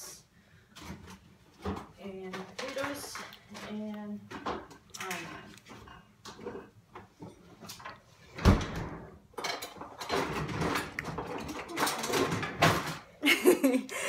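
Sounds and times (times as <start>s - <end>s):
vegetables and utensils rustling: 0.0s - 8.4s, 9.3s - 14.0s.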